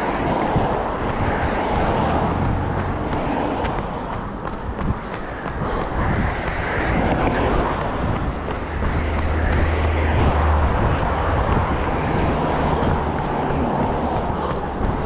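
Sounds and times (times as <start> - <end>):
vehicle passing by: 0.0 - 15.0
wind buffeting microphone: 0.0 - 15.0.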